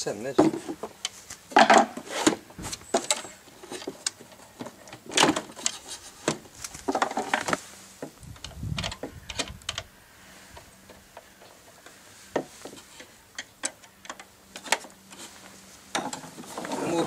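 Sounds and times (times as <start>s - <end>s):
metal scraping against wood: 0.0s - 17.0s.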